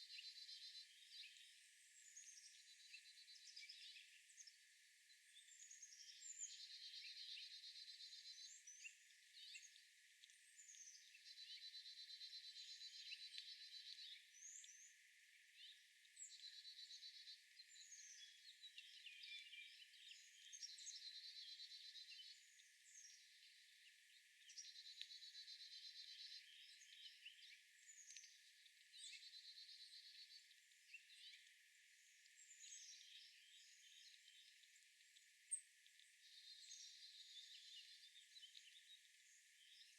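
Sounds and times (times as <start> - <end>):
songbird trill: 0.0 - 39.9.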